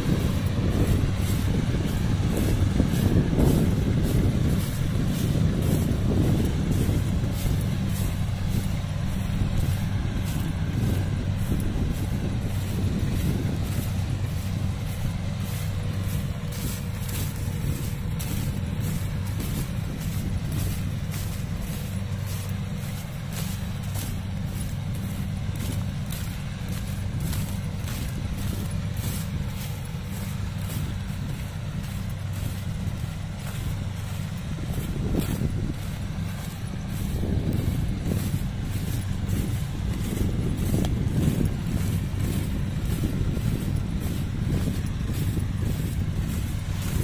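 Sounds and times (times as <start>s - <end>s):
diesel engine droning: 0.0s - 47.0s.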